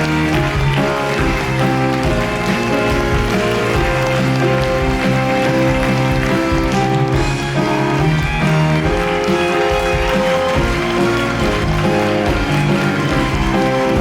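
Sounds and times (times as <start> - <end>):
loud instrumental music: 0.0 - 14.0.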